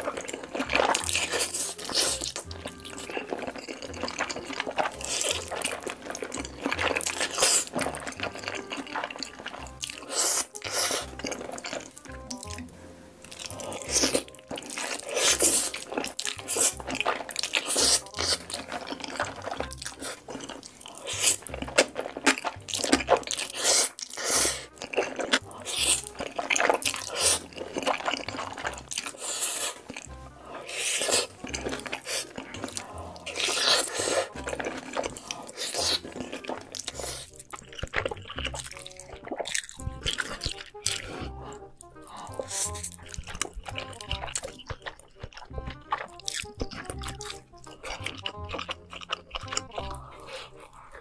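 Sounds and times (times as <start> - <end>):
background music: 0.0 - 51.0
slurping and chewing noodles: 0.0 - 51.0.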